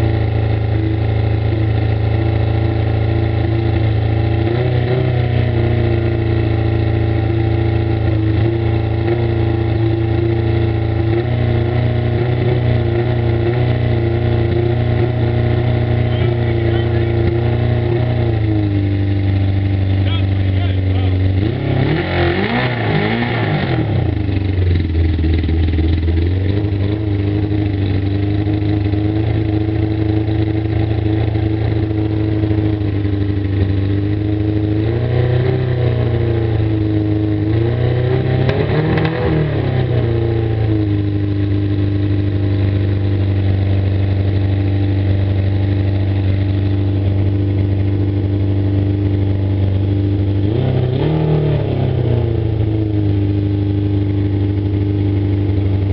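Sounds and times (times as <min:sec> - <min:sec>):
motorcycle engine idling rough: 0:00.0 - 0:21.6, 0:23.2 - 0:55.9.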